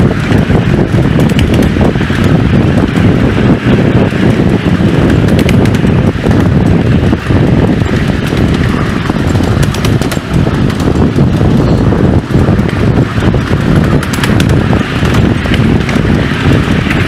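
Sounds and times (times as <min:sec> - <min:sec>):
miniature steam train rumble: 0:00.0 - 0:17.0
wheels clattering on rails: 0:00.0 - 0:17.0.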